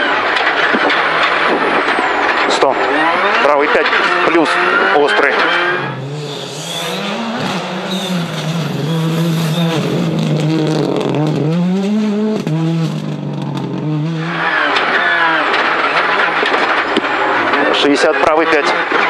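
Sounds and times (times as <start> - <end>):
rally car engine at full pace: 0.0 - 19.0.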